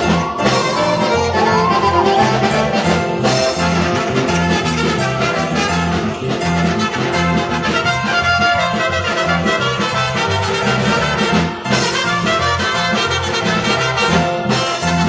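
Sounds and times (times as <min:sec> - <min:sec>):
brass band music: 0:00.0 - 0:15.0
steady bass line: 0:00.0 - 0:15.0.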